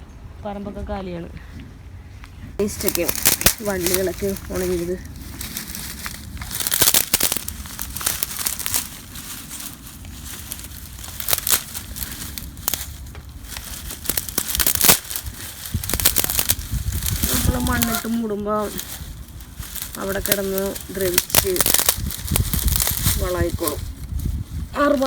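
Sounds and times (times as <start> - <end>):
dry vines snapping: 2.6 - 25.0
low rustle: 2.6 - 25.0.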